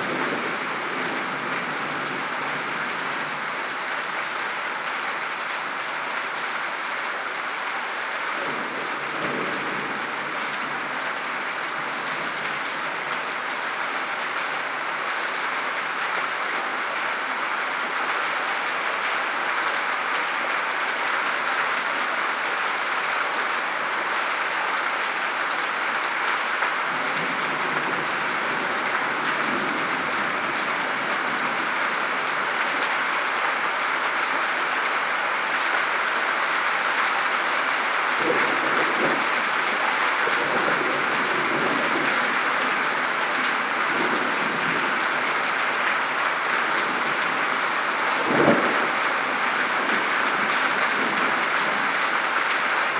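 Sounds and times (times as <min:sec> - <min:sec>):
hail and heavy rain pelting: 0:00.0 - 0:52.9.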